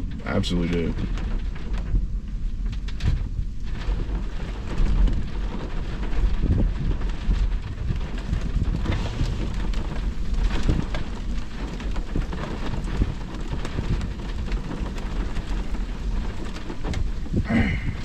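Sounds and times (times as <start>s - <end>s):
heavy rain falling: 0.0s - 18.0s
low rumble of thunder: 0.0s - 18.0s.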